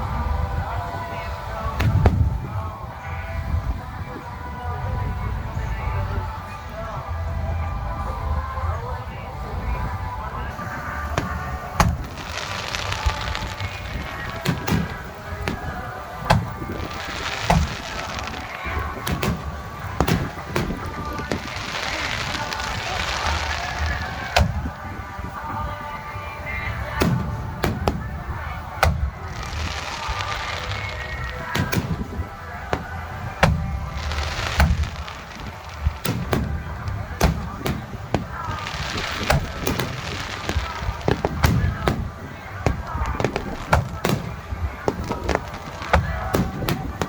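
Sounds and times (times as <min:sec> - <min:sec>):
fireworks bursting: 0:00.2 - 0:03.2, 0:10.4 - 0:47.0.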